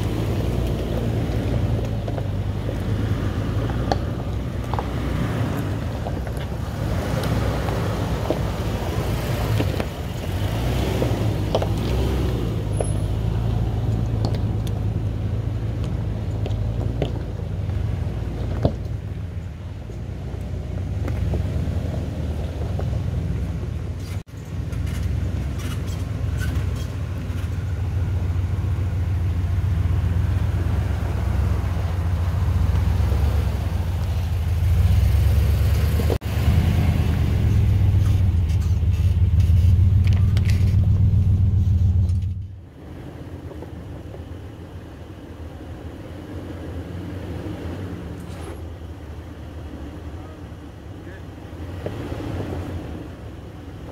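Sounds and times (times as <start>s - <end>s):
pickup engine running low: 0.0s - 53.9s.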